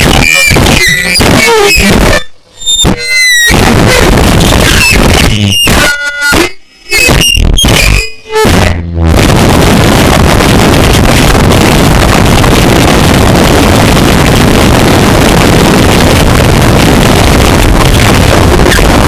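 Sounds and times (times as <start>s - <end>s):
distorted harsh noise music: 0.0s - 19.0s.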